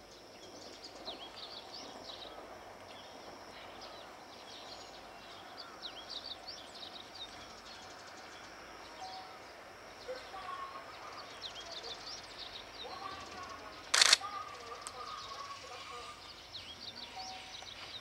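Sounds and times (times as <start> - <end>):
distant diesel train: 0.0 - 18.0
small birds chirping: 0.0 - 18.0.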